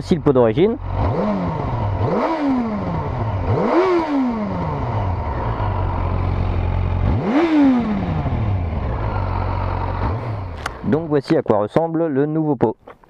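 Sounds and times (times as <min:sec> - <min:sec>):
motorcycle engine idling and revving: 0:00.0 - 0:11.8.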